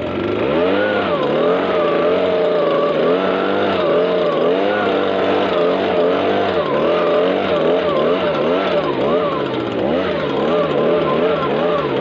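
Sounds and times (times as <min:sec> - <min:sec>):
leaf blower engine revving: 0:00.0 - 0:12.0.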